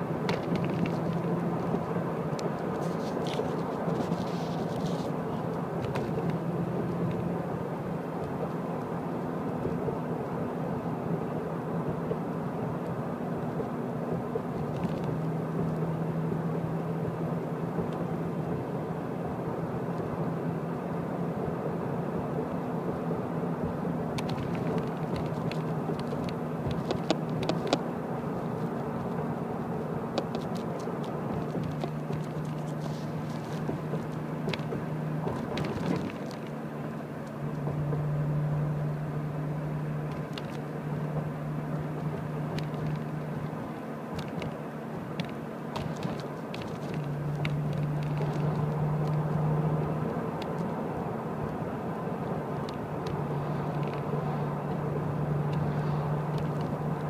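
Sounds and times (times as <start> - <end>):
car engine and road hum: 0.0 - 57.0.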